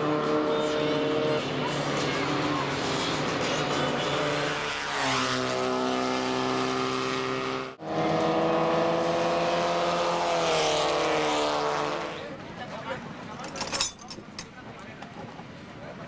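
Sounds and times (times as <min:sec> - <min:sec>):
race car engines passing at high revs: 0:00.0 - 0:13.4.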